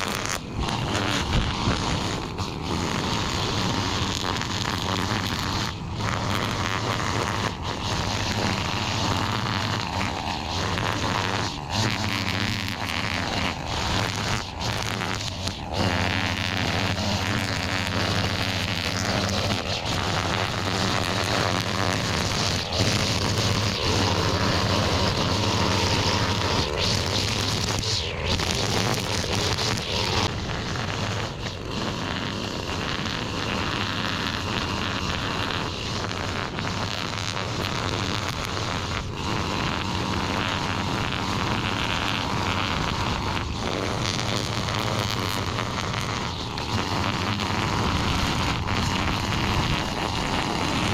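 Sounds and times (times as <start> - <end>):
cutting through weeds: 0.0 - 50.9
small gasoline engine running: 0.0 - 50.9.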